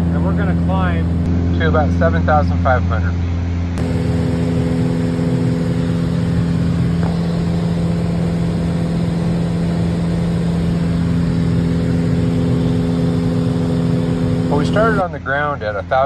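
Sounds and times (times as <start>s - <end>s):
airplane engine drone in cockpit: 0.0s - 16.0s.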